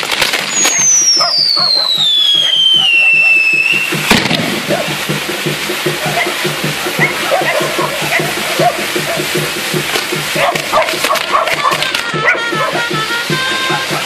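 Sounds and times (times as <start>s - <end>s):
firework bang: 0.0s - 13.9s
sparks hissing and crackling: 0.0s - 14.0s
whistling firework: 0.0s - 14.0s.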